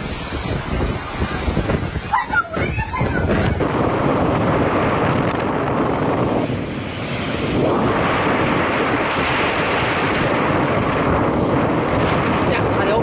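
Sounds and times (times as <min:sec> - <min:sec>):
storm wind rushing: 0:00.0 - 0:13.0
wind buffeting microphone: 0:00.0 - 0:13.0.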